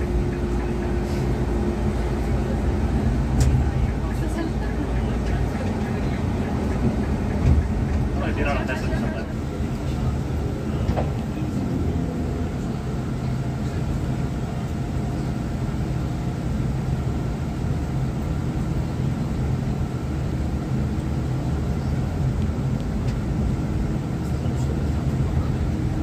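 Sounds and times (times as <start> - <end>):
van engine and road rumble: 0.0 - 26.0.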